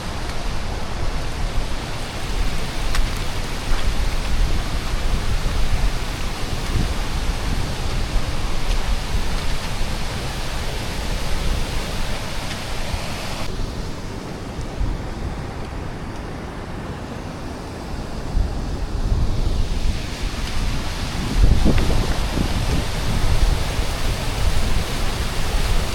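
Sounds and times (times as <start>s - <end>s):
rushing noise: 0.0s - 25.9s
wind buffeting microphone: 0.0s - 25.9s.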